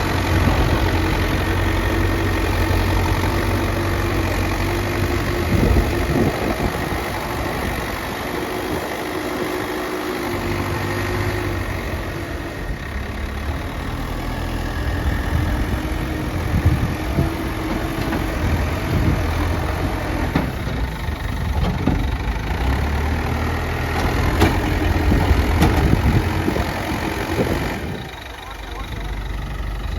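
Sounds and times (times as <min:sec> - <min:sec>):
diesel earthmover engine running: 0:00.0 - 0:29.9.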